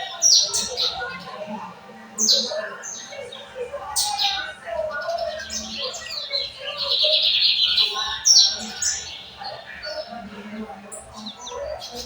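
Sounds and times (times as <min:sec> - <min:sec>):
bird singing trills and notes: 0:00.0 - 0:12.0.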